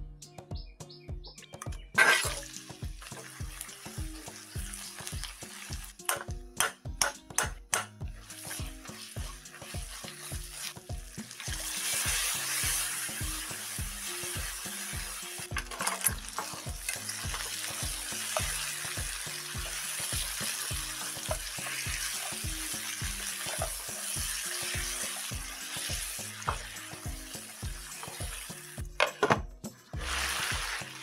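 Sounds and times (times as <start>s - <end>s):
crabs sizzling in a pan: 2.0s - 6.1s, 8.2s - 28.8s, 30.0s - 31.0s.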